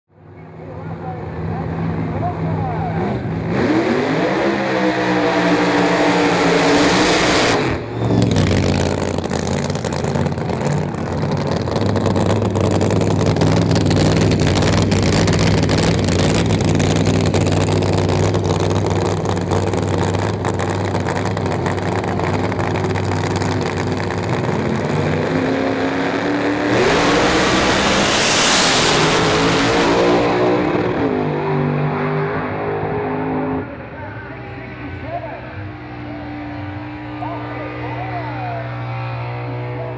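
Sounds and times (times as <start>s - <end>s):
drag racer engine revving: 1.3s - 39.9s.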